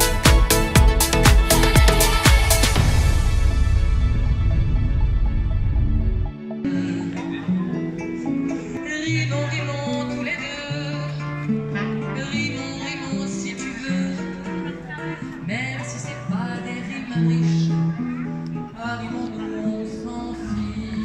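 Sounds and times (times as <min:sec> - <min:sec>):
acoustic guitar music: 0:00.0 - 0:04.0, 0:06.2 - 0:21.0.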